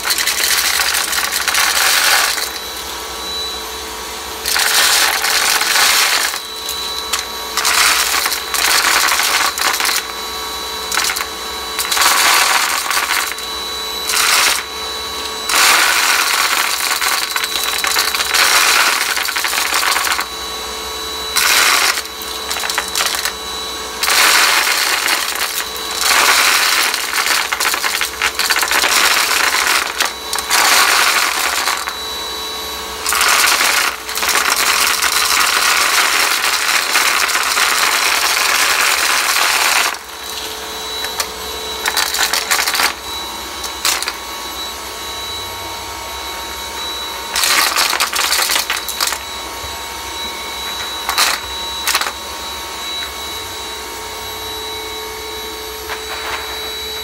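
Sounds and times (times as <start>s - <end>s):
beans rattling through vacuum: 0.0s - 3.5s, 4.4s - 44.3s, 47.3s - 49.3s, 50.8s - 52.2s
vacuum motor whine: 0.0s - 57.0s.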